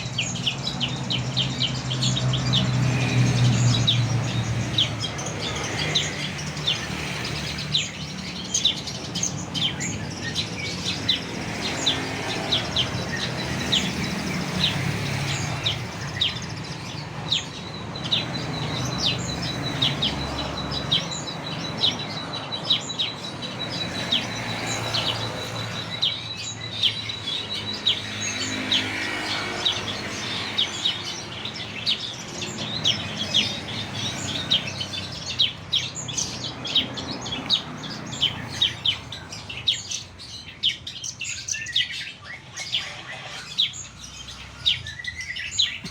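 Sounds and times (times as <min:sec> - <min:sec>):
songbird chirping rapidly: 0:00.0 - 0:45.9.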